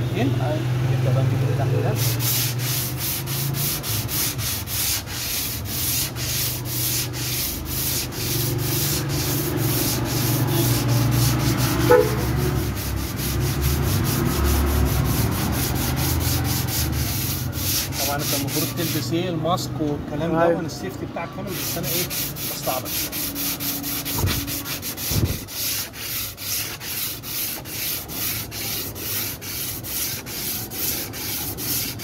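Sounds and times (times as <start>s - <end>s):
sandpaper rubbing on filler: 1.7s - 19.3s, 21.4s - 32.0s.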